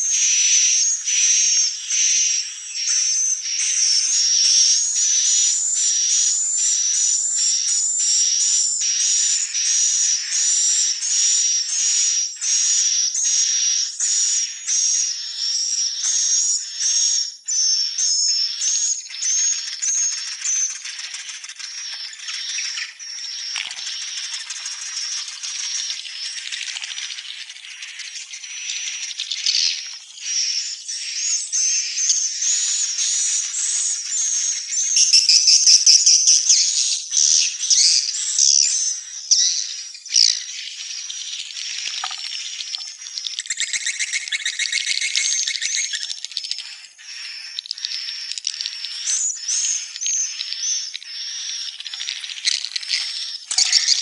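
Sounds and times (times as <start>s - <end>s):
birds twittering: 0.0s - 54.0s
sharp bird chirps: 0.0s - 54.0s.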